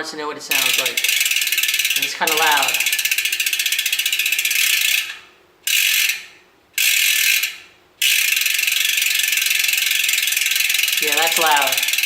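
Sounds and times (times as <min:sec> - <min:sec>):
bicycle freehub clicking: 0:00.5 - 0:12.0.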